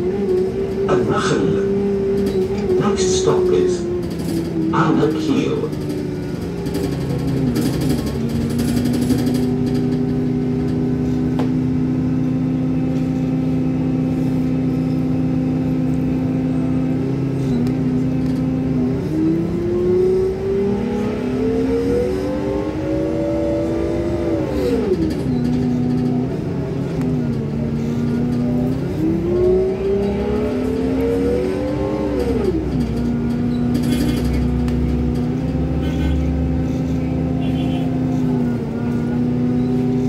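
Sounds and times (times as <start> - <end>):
bus engine droning: 0.0 - 40.0.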